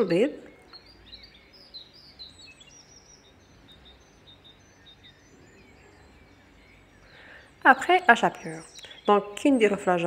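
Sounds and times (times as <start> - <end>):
low background hum: 0.0 - 10.0
small birds chirping: 0.0 - 10.0.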